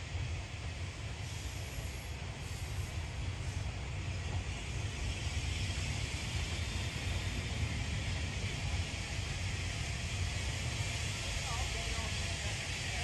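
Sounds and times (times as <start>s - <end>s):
steam hissing: 0.0s - 13.0s
steam locomotive rumbling: 0.0s - 13.0s.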